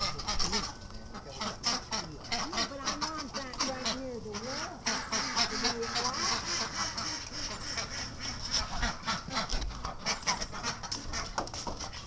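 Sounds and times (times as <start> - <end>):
geese and ducks calling: 0.0 - 12.0.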